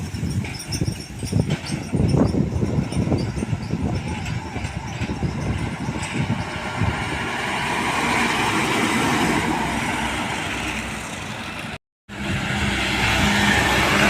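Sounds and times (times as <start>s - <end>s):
heavy road vehicles passing: 0.0s - 14.0s.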